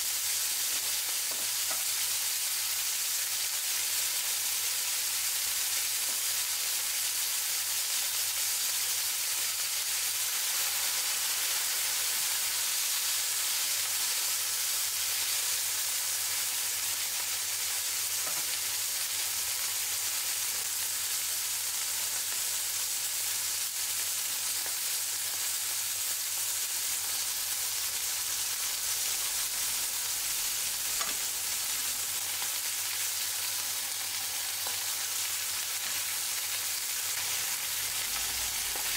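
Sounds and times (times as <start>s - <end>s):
patties sizzling in skillet: 0.0s - 38.9s.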